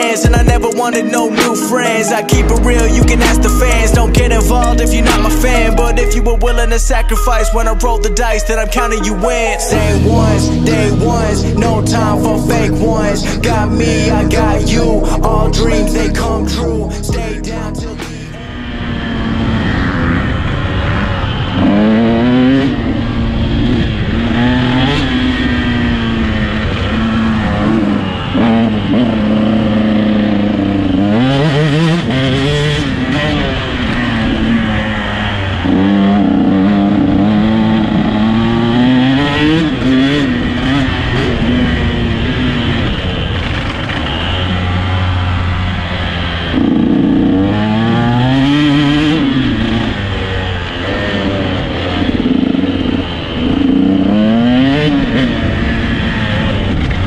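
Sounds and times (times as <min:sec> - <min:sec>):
motocross bike engine revving: 0:02.3 - 0:57.0.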